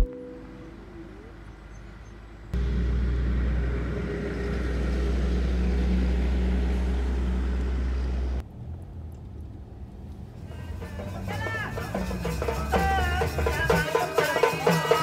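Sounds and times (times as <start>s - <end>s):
road noise: 0.0s - 13.9s
vehicle engine rumble: 0.0s - 13.9s.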